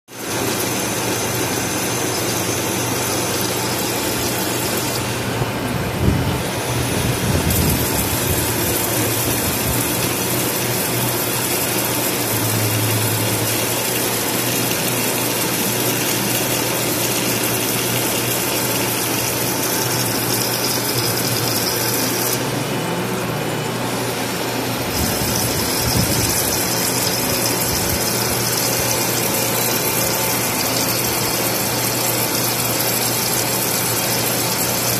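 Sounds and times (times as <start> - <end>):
cutting machine running: 0.1 - 34.9.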